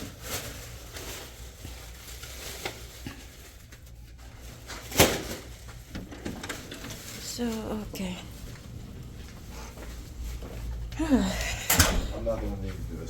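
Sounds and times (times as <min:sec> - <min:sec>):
handling and rustling: 0:00.0 - 0:13.0
steady low hum: 0:00.1 - 0:13.0.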